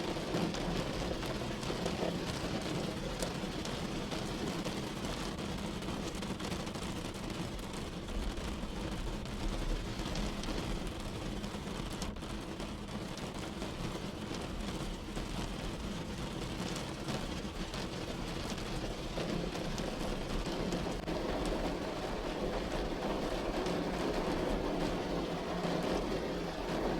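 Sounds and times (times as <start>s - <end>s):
low rumble of rain: 0.0s - 26.9s
rain drops pattering: 0.0s - 26.9s.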